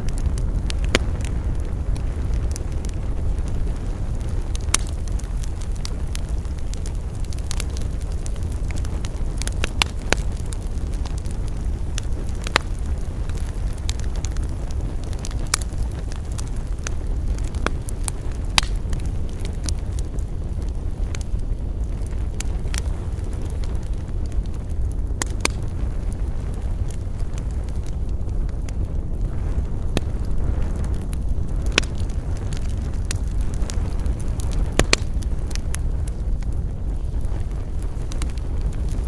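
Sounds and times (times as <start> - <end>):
campfire crackling: 0.0 - 39.0
sharp popping of burning wood: 0.0 - 39.0
steady low rumble: 0.0 - 39.0.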